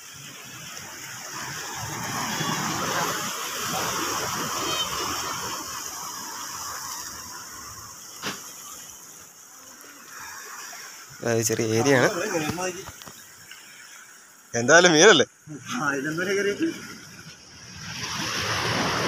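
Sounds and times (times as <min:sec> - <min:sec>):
sea waves splashing against rocks: 0:00.2 - 0:13.4, 0:16.1 - 0:19.0.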